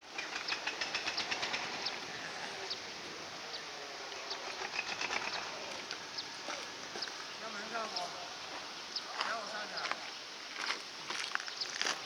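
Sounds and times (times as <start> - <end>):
steady background hiss: 0.0 - 12.0
small birds chirping: 0.1 - 10.5, 11.3 - 12.0.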